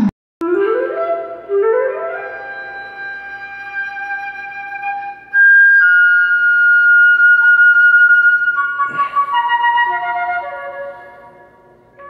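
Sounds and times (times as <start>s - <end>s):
solo flute melody: 0.4s - 12.0s.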